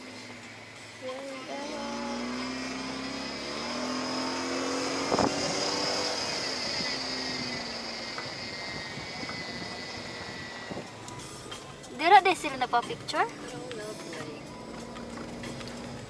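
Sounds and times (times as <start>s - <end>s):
car engine accelerating: 0.0s - 16.0s
tyre and road noise: 0.0s - 16.0s.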